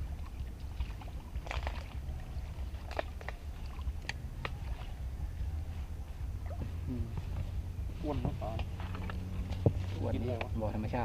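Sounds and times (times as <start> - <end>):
light water splashes: 0.0 - 11.0
low rumble: 0.0 - 11.0.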